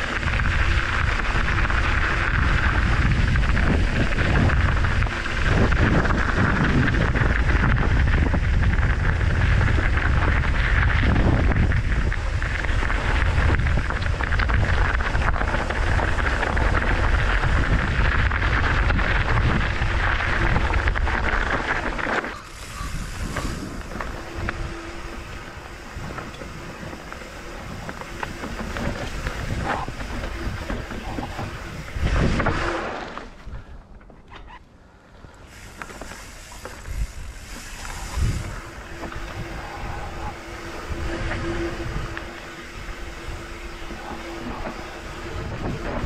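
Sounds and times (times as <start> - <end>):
wind on microphone: 0.0 - 33.9, 35.8 - 46.0
bike tyres rolling on dirt trail: 0.0 - 46.0.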